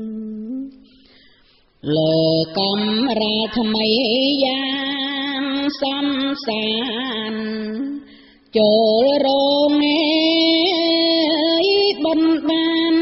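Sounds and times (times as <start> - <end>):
woman chanting: 1.8 - 13.0.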